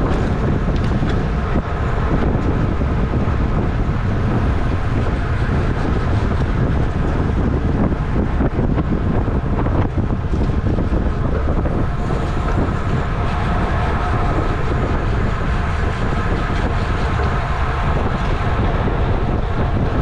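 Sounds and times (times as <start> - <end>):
road rumble: 0.0 - 20.0
wind rushing over microphone: 0.0 - 20.0.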